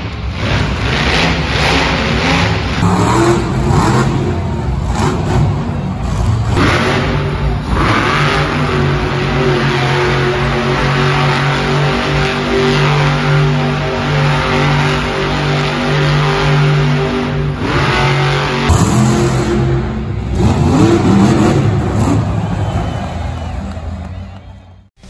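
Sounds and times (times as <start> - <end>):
monster truck engine revving: 0.0 - 24.9.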